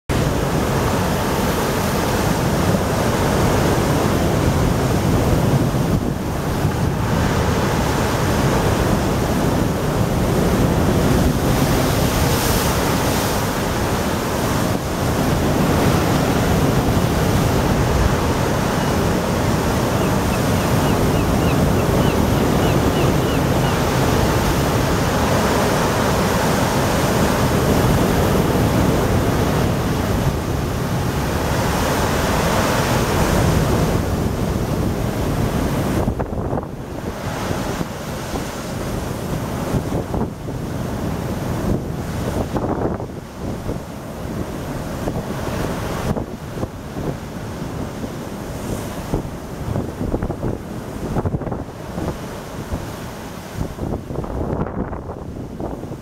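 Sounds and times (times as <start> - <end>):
wind buffeting microphone: 0.1 - 56.0.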